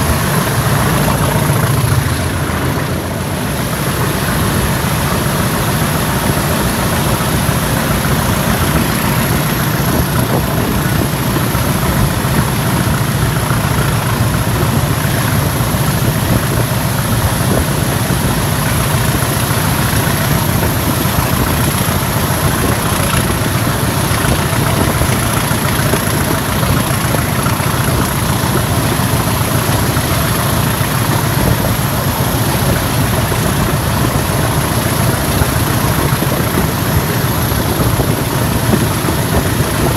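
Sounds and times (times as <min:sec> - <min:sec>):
diesel locomotive engine drone: 0:00.0 - 0:39.9
train running noise: 0:00.0 - 0:39.9.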